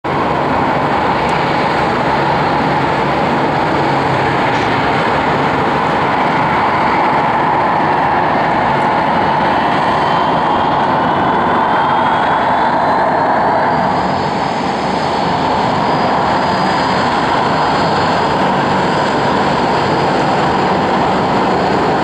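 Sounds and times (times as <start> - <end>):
jet engines running: 0.0 - 22.0
faint rising whine: 0.1 - 22.0.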